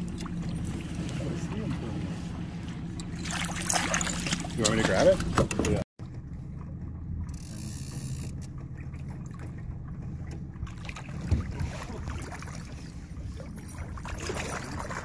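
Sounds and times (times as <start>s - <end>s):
boat motor idling: 0.0s - 15.0s
water splashing: 0.0s - 15.0s.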